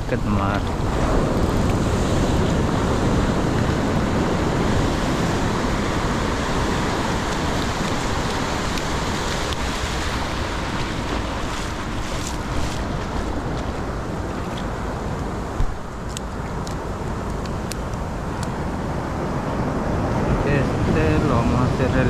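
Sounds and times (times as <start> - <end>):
ocean surf washing on sand: 0.0 - 22.0
wind on microphone: 0.0 - 22.0.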